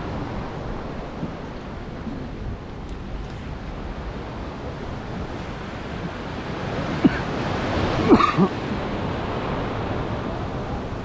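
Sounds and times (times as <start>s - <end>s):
waves breaking: 0.0s - 11.0s
wind on microphone: 0.0s - 11.0s.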